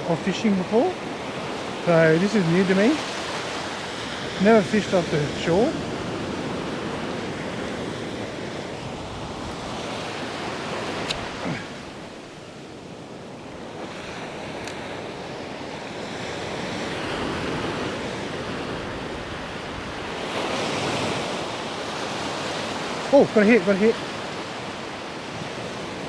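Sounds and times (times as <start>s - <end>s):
ocean surf on sandy beach: 0.0s - 26.0s
wind buffeting microphone: 0.7s - 26.0s.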